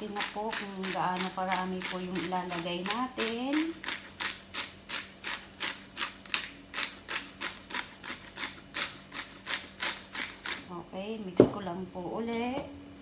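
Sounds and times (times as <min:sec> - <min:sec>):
pepper mill grinding: 0:00.0 - 0:10.7.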